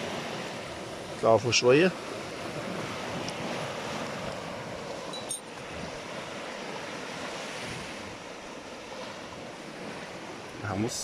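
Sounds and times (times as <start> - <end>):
sea surf breaking: 0.0 - 11.0
wind buffeting microphone: 0.0 - 11.0.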